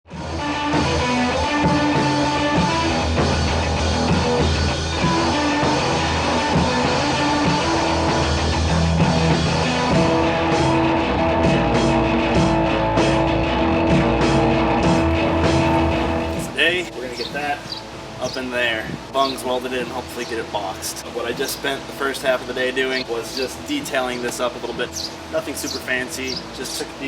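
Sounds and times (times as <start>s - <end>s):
rock music: 0.1s - 27.0s.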